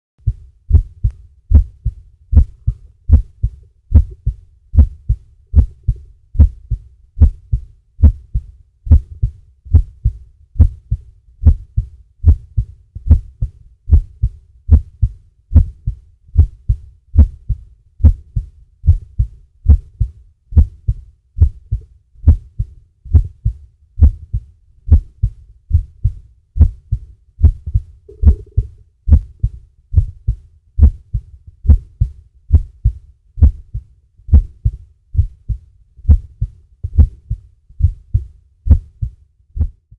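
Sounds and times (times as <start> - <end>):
heartbeat thumps: 0.2 - 39.9.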